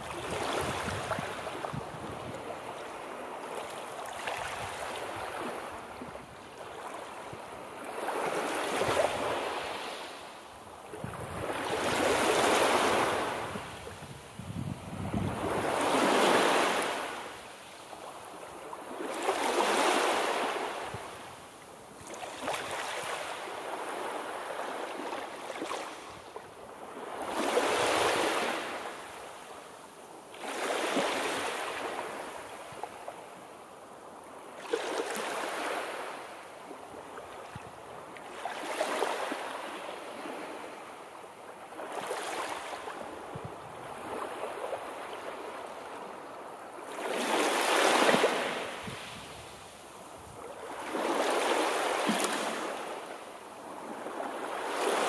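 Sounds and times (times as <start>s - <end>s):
sea waves breaking on shore: 0.0s - 55.0s.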